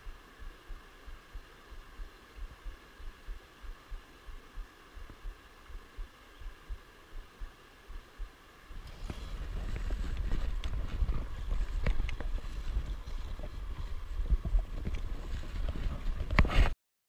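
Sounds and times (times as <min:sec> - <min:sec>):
low wind rumble: 0:00.0 - 0:16.7.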